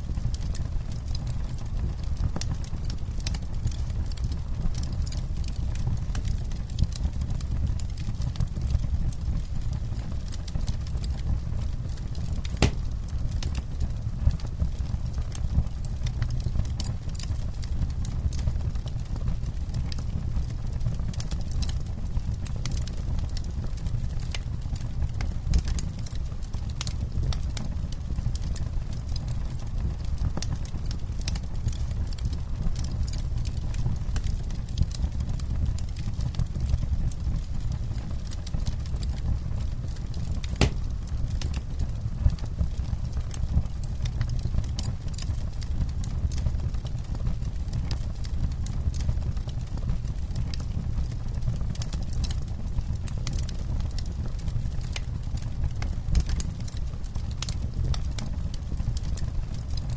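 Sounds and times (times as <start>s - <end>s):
campfire crackling and popping: 0.0s - 59.9s
low steady rumble: 0.0s - 59.9s.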